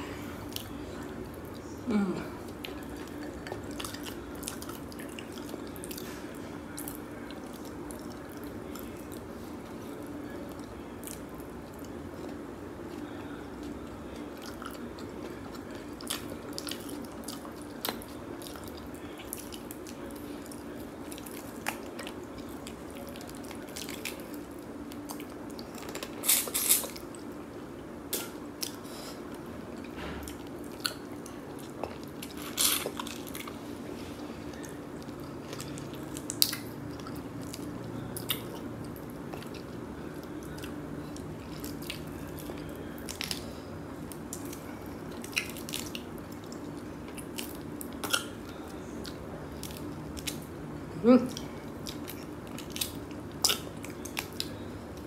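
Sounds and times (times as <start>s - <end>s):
steady low hum: 0.0s - 55.0s
wet chewing and smacking: 2.5s - 27.4s, 28.1s - 33.7s, 34.4s - 50.6s, 51.3s - 55.0s.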